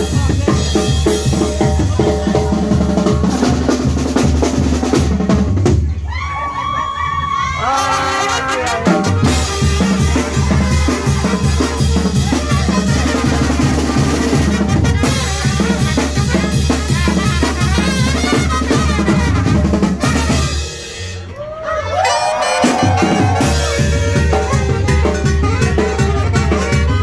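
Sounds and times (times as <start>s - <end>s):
loud music with drum beat: 0.0s - 6.0s, 8.7s - 21.3s, 22.3s - 27.0s.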